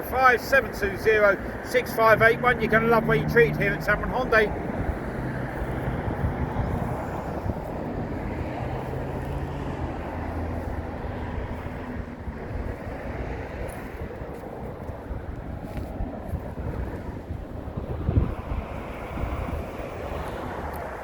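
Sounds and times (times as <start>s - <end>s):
low vehicle hum: 0.0s - 21.0s
road traffic rush: 0.0s - 21.0s.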